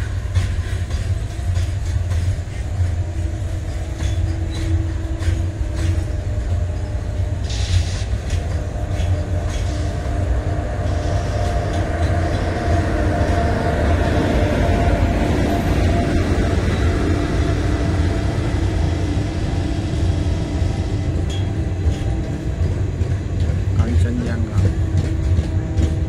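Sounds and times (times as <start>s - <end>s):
wheels clicking on rails: 0.0s - 17.6s, 18.4s - 26.0s
electric train approaching: 0.0s - 26.0s
freight train wagons rumbling: 0.0s - 26.0s.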